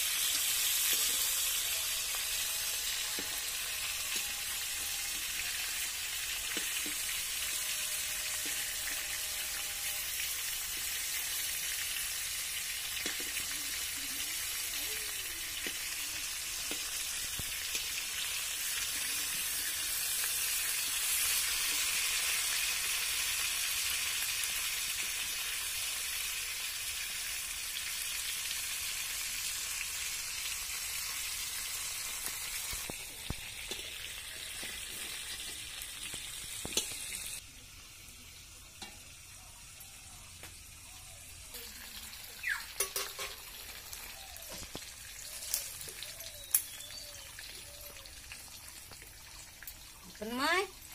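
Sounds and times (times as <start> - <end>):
fish sizzling in oil: 0.0 - 50.9.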